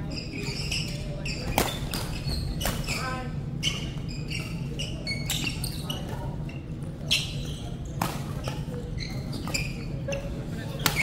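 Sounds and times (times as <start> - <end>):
sneakers squeaking on wooden floor: 0.0 - 11.0.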